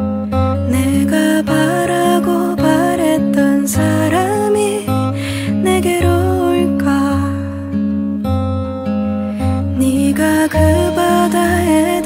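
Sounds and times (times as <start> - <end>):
acoustic guitar: 0.0 - 12.0
woman singing: 0.6 - 7.8, 9.4 - 12.0.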